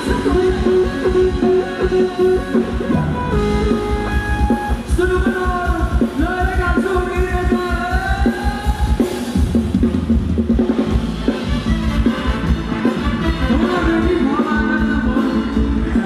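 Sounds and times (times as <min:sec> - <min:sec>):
drums: 0:00.0 - 0:16.0
guitar: 0:00.0 - 0:16.0.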